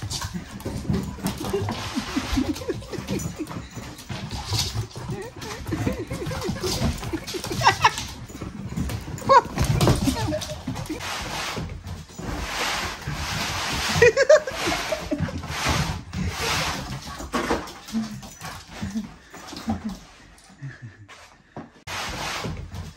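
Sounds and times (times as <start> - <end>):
paws scrabbling on wooden floor: 0.0 - 22.9.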